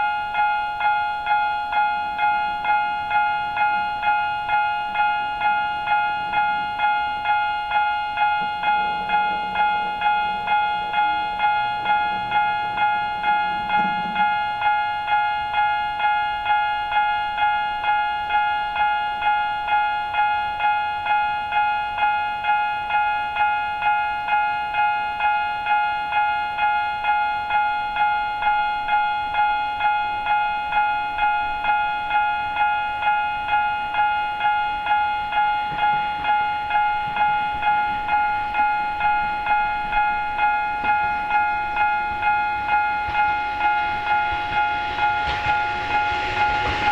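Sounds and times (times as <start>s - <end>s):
level crossing warning bell: 0.0s - 46.9s.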